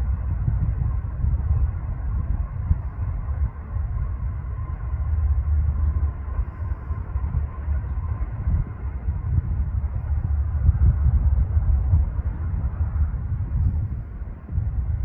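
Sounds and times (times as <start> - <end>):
faint steady tone: 0.0 - 15.0
propeller plane engine rumbling: 0.0 - 15.0.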